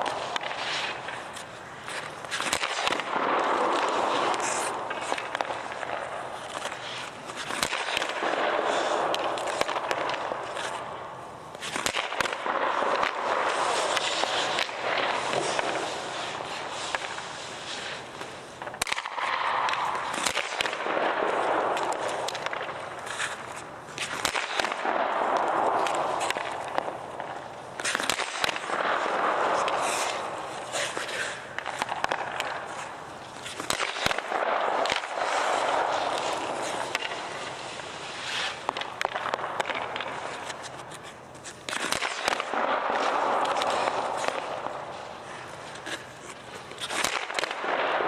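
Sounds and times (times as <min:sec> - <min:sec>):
pucks hitting goalie pads: 0:00.0 - 0:48.0
skates scraping on ice: 0:00.0 - 0:48.0
sticks striking pucks: 0:00.0 - 0:48.0.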